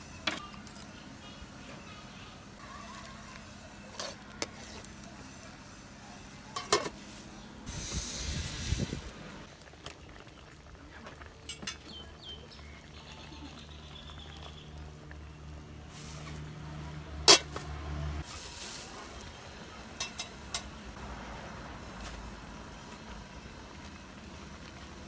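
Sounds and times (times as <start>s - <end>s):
soup boiling and bubbling: 0.0s - 25.0s.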